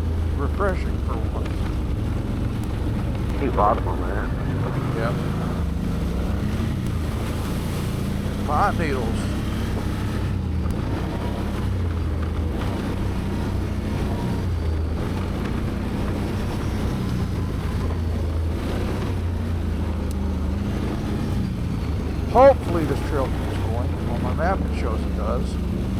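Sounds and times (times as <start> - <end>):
atv engine running: 0.0 - 25.9.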